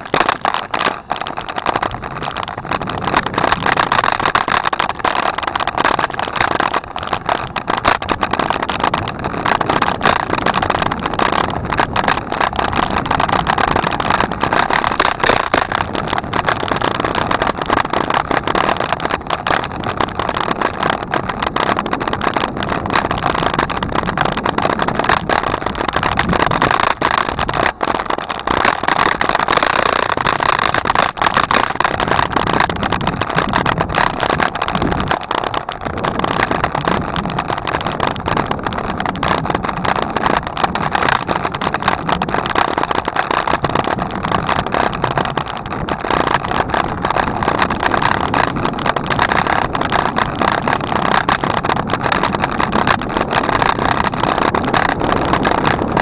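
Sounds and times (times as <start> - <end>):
bicycle tyres on path: 0.0 - 56.0
bike and camera mount rattling: 0.0 - 56.0
small clicks: 0.0 - 56.0.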